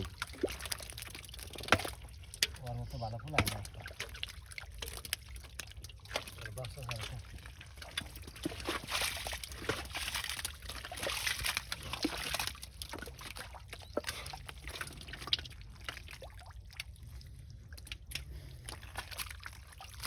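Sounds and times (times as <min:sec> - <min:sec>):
water dripping: 0:00.0 - 0:20.0
water sloshing and splashing: 0:00.0 - 0:20.0.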